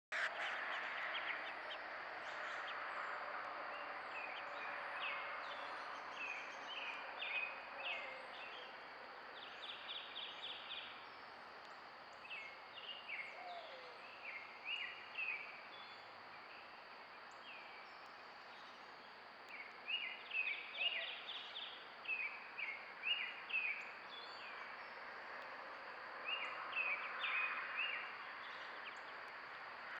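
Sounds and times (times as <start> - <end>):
small songbirds chirping: 0.1 - 29.9.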